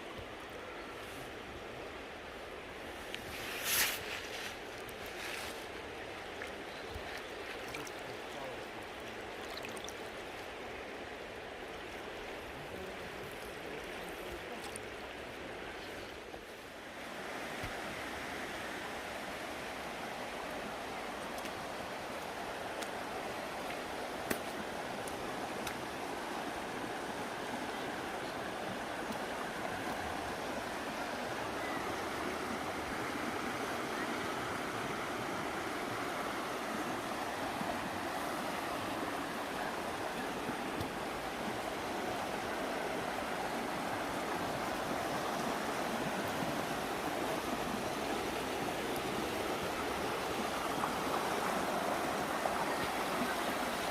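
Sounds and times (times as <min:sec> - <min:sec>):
river water rushing and splashing: 0:00.0 - 0:53.9.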